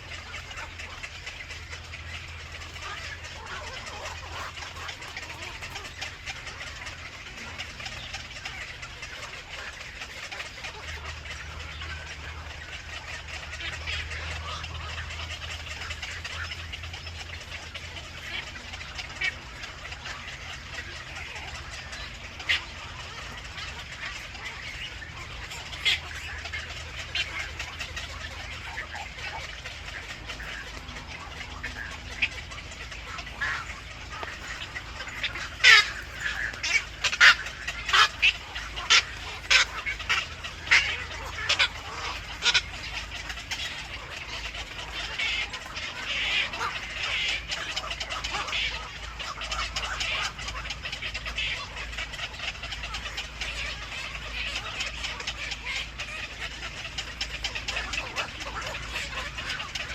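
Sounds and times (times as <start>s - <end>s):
sharp bird calls: 0.0s - 59.9s
steady hiss and low hum: 0.0s - 59.9s.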